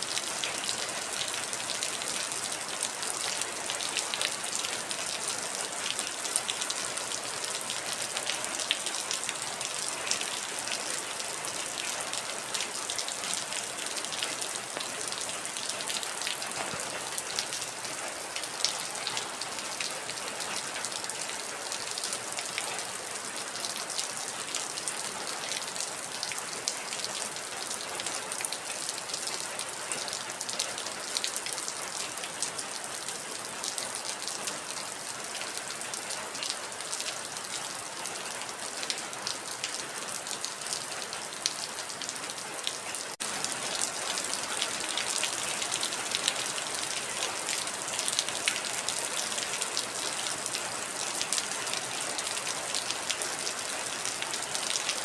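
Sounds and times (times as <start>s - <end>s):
heavy rain on a hard surface: 0.0s - 55.0s.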